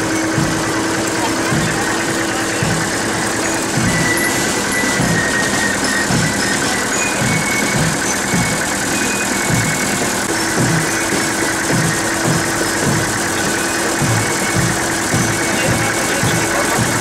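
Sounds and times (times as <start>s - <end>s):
tractor engine chugging: 0.0s - 17.0s.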